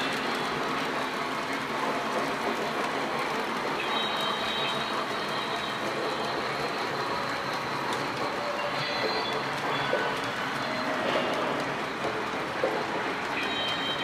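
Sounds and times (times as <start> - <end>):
model train rumbling on rails: 0.0 - 14.0.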